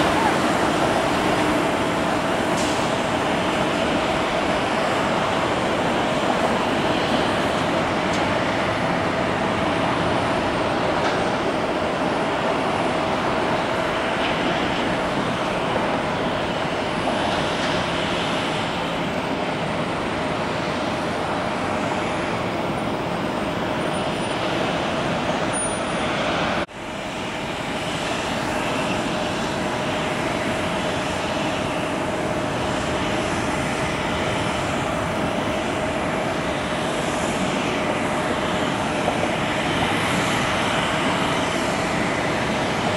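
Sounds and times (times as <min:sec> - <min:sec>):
jet engines roaring and whining: 0:00.0 - 0:42.9.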